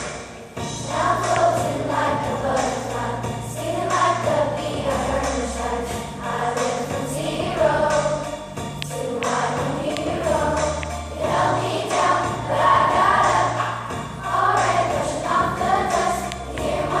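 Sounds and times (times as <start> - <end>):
children's choir singing: 0.0 - 17.0
instrumental accompaniment: 0.0 - 17.0.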